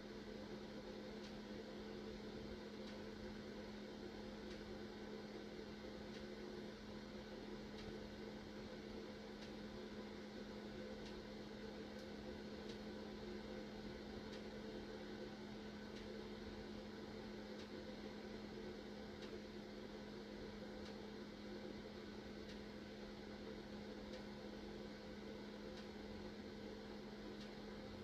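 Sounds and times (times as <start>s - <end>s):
faint machine hum: 0.0s - 28.0s.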